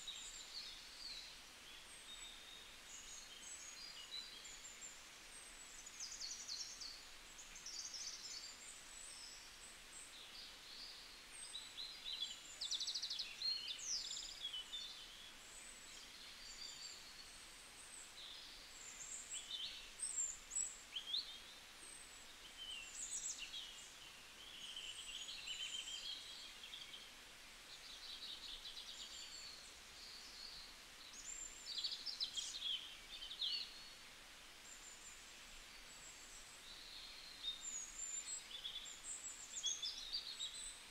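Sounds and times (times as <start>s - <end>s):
faint background hiss: 0.0s - 40.9s.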